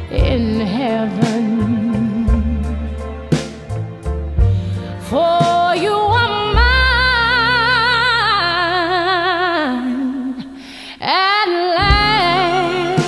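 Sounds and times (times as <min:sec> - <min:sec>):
woman singing slow love song: 0:00.0 - 0:02.9, 0:05.0 - 0:13.0
soft low accompaniment: 0:00.0 - 0:10.6, 0:11.8 - 0:13.0.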